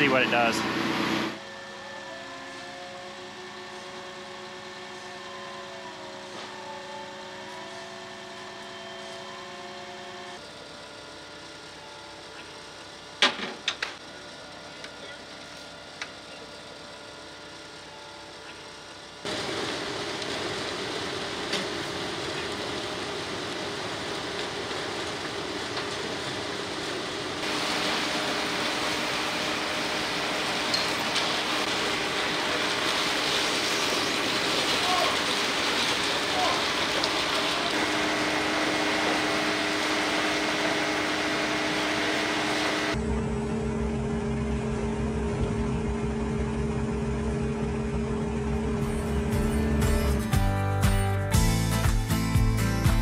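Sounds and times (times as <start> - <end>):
concrete machinery engines running: 0.0 - 53.0.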